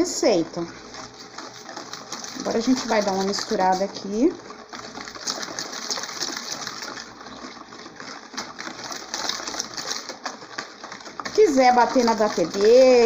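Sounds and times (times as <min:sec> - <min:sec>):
whisk beating batter in bowl: 0:00.0 - 0:13.0.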